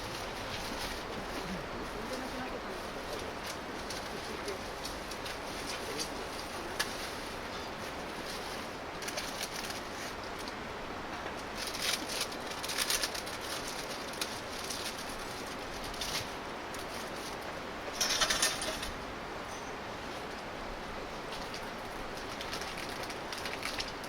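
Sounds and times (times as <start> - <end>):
campfire burning with crackle: 0.0 - 19.1, 20.0 - 24.0.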